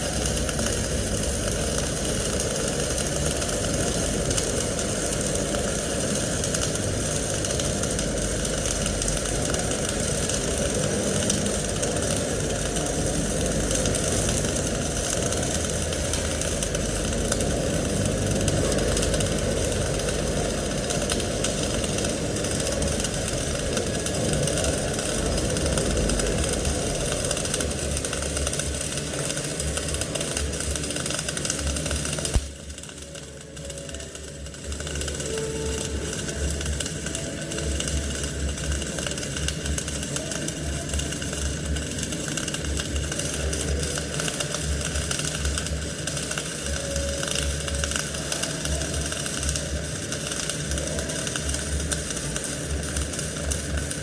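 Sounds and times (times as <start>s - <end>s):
welding arc crackle and hiss: 0.0s - 54.0s.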